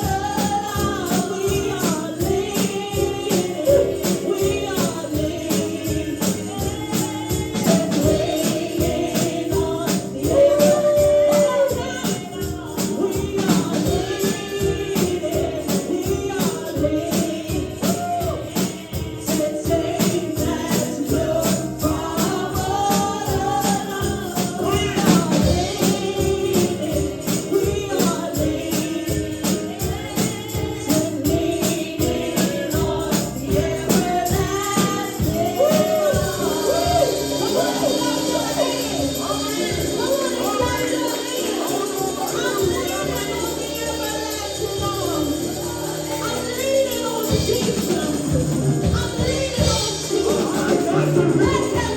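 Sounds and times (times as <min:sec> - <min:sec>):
tambourine shaken and struck: 0:00.0 - 0:51.9
voices singing together: 0:00.0 - 0:51.9.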